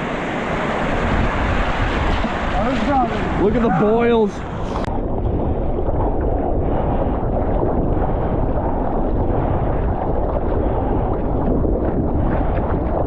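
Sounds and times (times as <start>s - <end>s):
lake waves washing: 0.0s - 13.0s
wind buffeting microphone: 0.0s - 13.0s.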